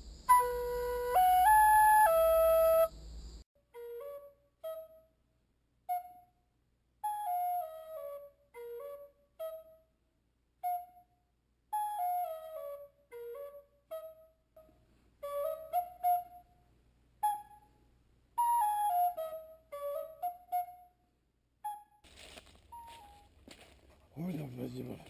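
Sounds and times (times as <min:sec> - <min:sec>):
flute-like melody: 0:00.2 - 0:02.9, 0:03.6 - 0:10.0, 0:10.6 - 0:25.0.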